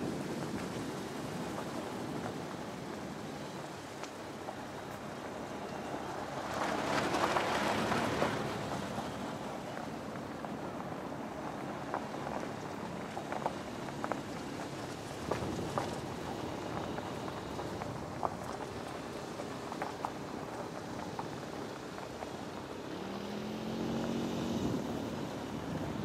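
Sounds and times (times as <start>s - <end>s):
vehicle driving across grass: 0.0s - 26.0s.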